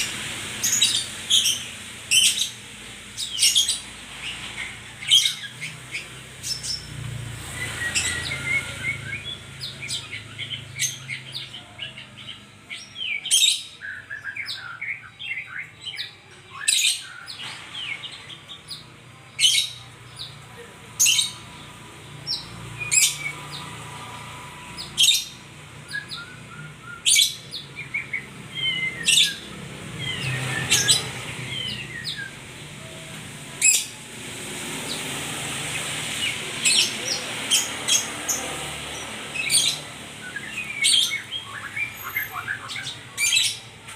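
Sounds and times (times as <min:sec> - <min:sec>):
songbird whistled song: 0:00.0 - 0:20.4, 0:22.2 - 0:34.1, 0:36.1 - 0:43.9.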